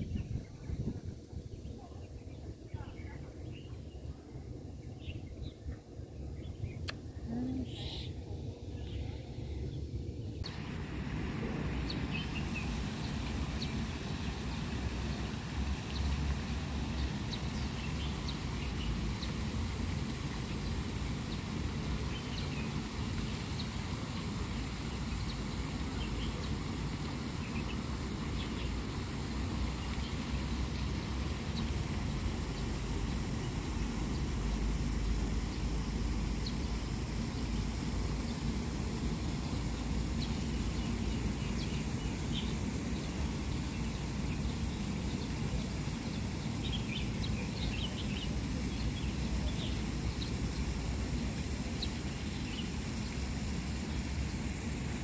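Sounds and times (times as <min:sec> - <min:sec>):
low outdoor rumble with hiss: 0:00.0 - 0:55.0.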